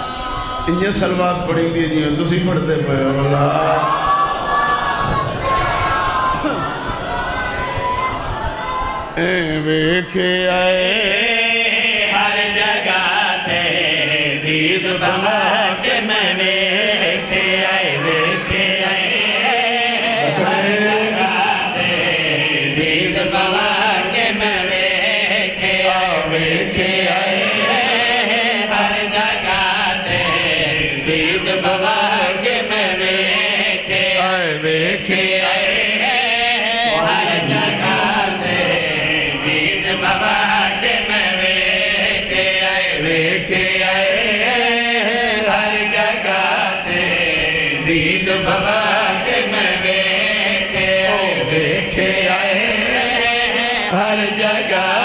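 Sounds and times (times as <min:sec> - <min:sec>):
men chanting through microphones: 0:00.0 - 0:08.3, 0:09.0 - 0:55.0.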